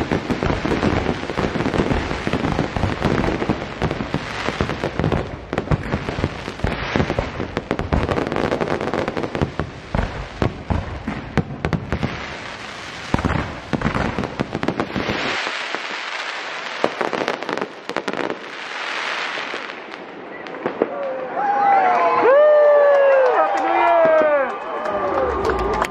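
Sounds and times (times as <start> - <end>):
fireworks hissing and popping: 0.0 - 21.0
fireworks exploding: 0.0 - 21.4.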